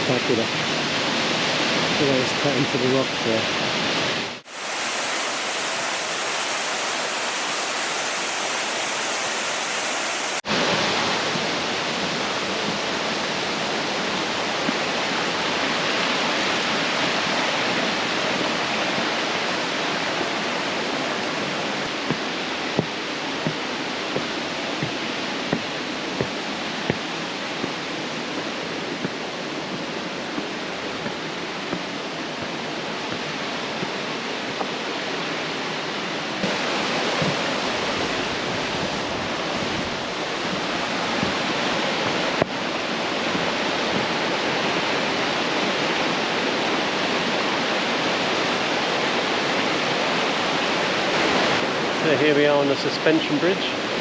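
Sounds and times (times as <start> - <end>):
rushing stream water: 0.0 - 54.0.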